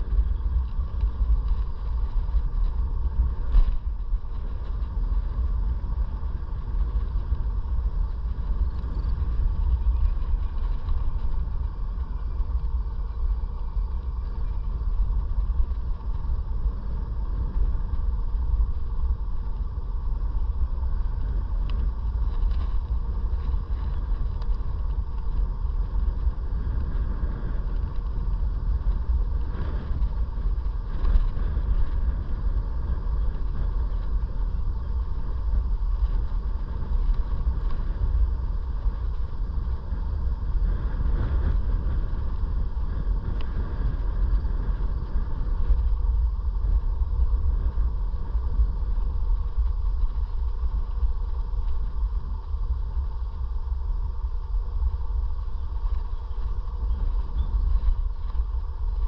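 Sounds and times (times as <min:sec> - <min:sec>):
electric scooter motor whine: 0:00.0 - 0:59.0
wind rumbling on microphone: 0:00.0 - 0:59.0.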